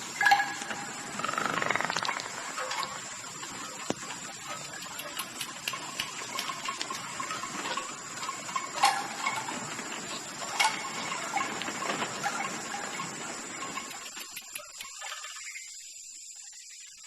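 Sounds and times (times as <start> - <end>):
bats squeaking and clicking: 0.1 - 17.0.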